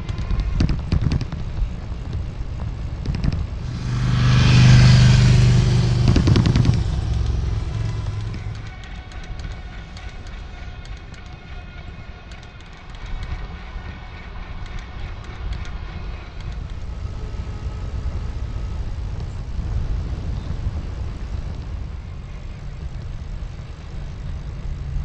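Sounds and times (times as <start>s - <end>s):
faint steady whining tones: 0.0s - 25.0s
wind and road noise: 0.0s - 25.0s.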